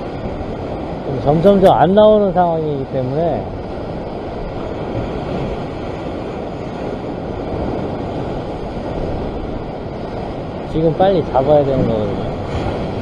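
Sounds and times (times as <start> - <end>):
surf breaking on rocks: 0.0 - 13.0
wind on microphone: 0.0 - 13.0.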